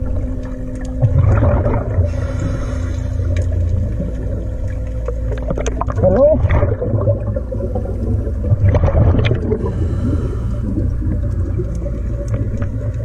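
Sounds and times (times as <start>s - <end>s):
regulator bubbling underwater: 0.0s - 13.0s
steady low drone: 0.0s - 13.0s.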